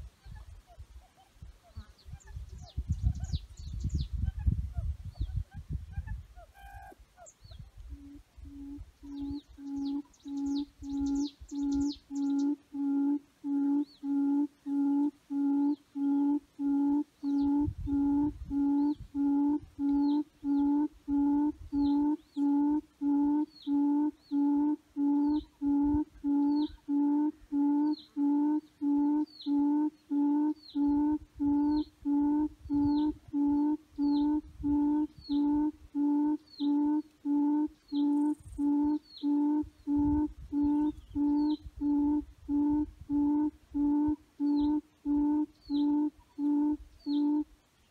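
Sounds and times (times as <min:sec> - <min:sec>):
high chirps: 0:08.0 - 0:47.4.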